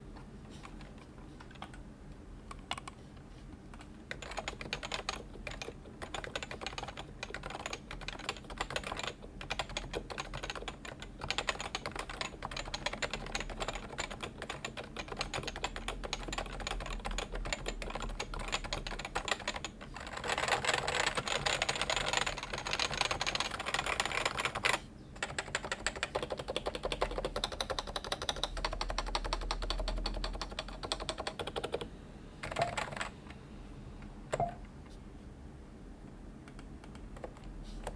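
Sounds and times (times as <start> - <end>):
keyboard typing: 0.6 - 1.8, 2.5 - 3.0, 3.7 - 33.1, 36.4 - 37.9.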